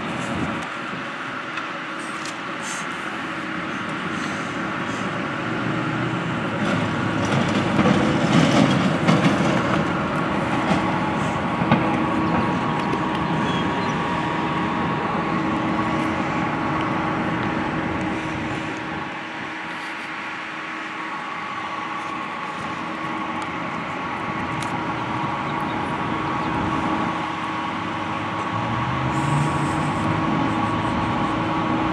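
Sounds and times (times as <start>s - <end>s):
street traffic hum: 0.0s - 31.9s
vehicle passing close: 3.5s - 31.9s.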